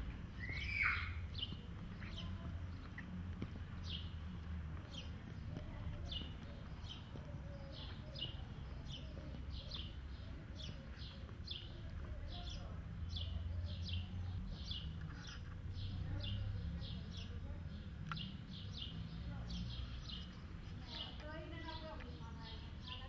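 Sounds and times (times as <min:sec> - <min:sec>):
small bird chirping: 0:00.3 - 0:23.0.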